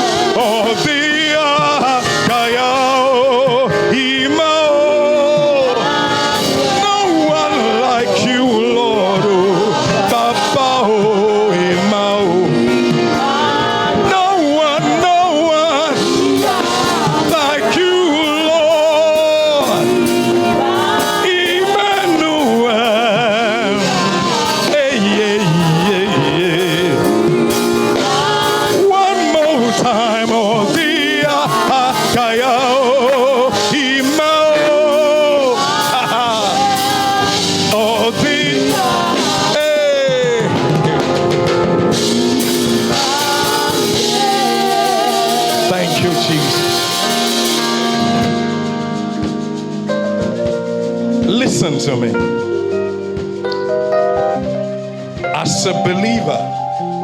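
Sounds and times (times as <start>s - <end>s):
person singing with vibrato: 0.0s - 57.0s
worship music: 0.0s - 57.0s.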